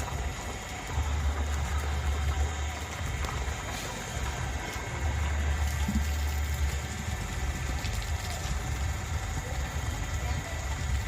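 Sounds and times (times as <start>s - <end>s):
water pump motor throbbing: 0.0s - 11.0s.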